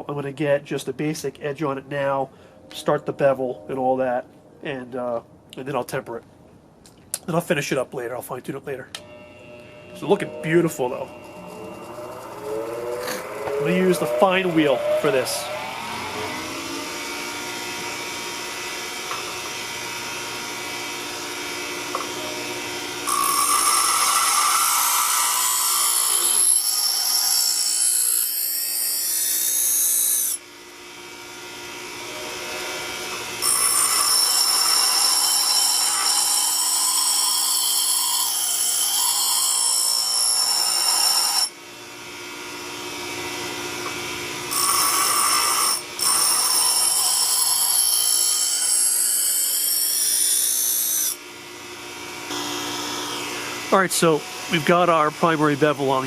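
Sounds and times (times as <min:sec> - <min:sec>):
bench grinder wheel humming: 0:09.0 - 0:41.5, 0:42.4 - 0:55.2.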